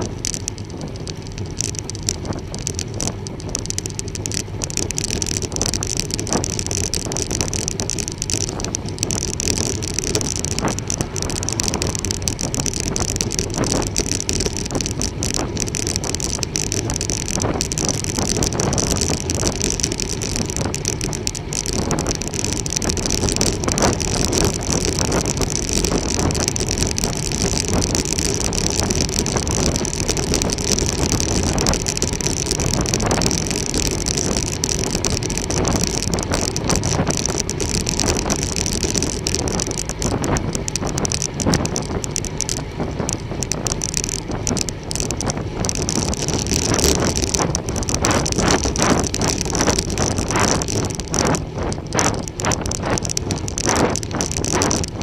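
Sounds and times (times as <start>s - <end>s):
bicycle tyre road noise: 0.0s - 55.0s
wind rushing over microphone: 0.0s - 55.0s.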